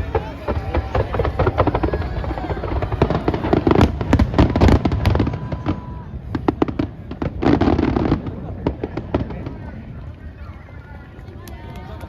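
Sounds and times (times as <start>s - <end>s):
fireworks crackling bangs: 0.0s - 12.0s.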